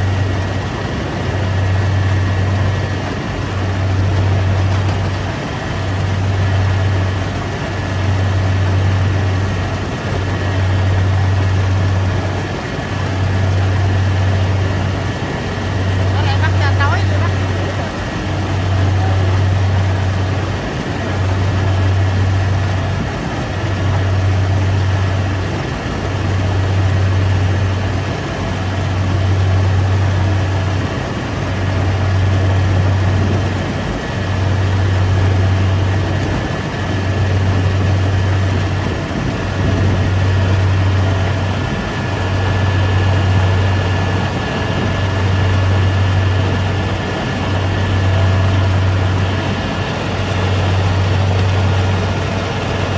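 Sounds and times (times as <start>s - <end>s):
combine harvester engine hum: 0.0s - 52.9s.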